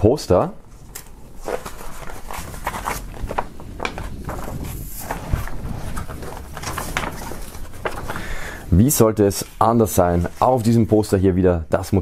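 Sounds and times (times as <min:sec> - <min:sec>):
paper rustling and crackling: 0:00.7 - 0:11.1.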